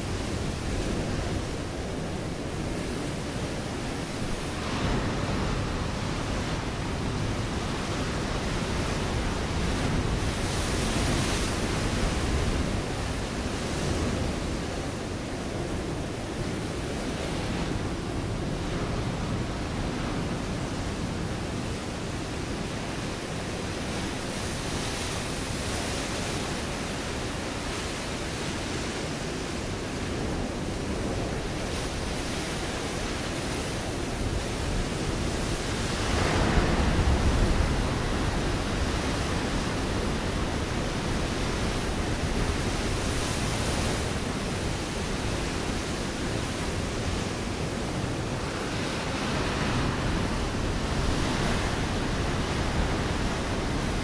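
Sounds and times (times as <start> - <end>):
waves washing onto rocky shore: 0.0 - 54.0.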